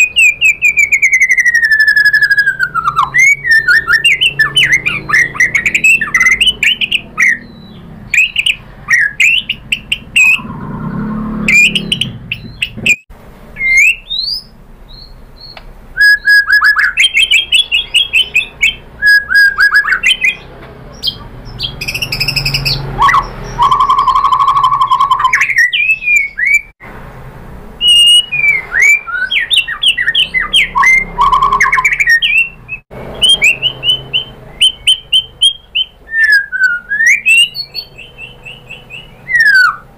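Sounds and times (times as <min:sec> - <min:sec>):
songbird whistles and trills: 0:00.0 - 0:13.0, 0:13.6 - 0:26.7, 0:27.8 - 0:39.9.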